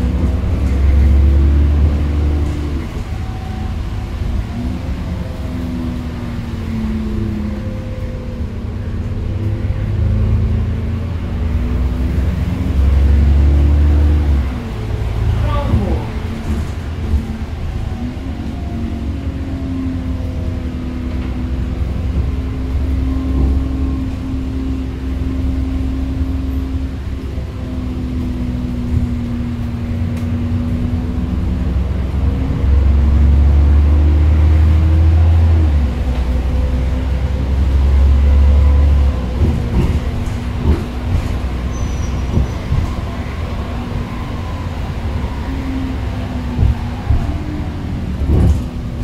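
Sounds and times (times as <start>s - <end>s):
bus engine hum: 0.0s - 49.0s
road rumble: 0.0s - 49.0s.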